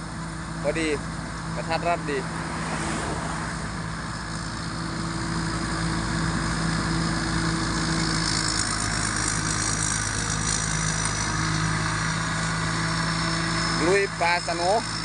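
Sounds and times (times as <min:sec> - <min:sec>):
diesel engine running: 0:00.0 - 0:15.0
turbocharger whine: 0:00.0 - 0:15.0.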